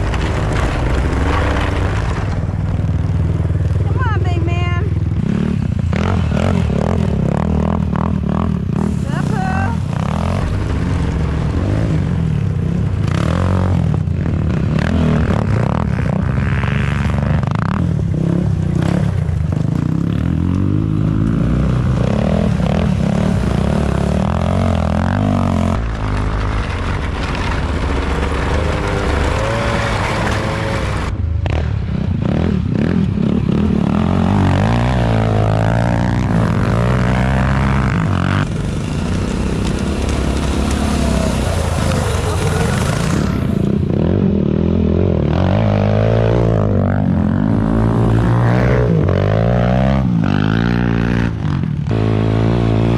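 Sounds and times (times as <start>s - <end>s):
small engines revving: 5.1s - 31.7s, 32.5s - 52.9s.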